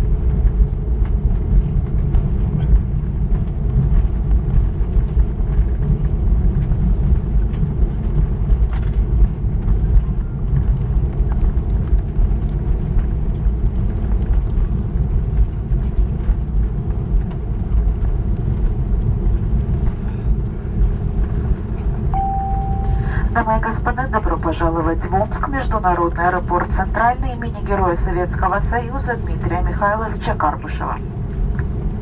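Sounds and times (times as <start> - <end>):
airplane rolling low rumble: 0.0 - 32.0.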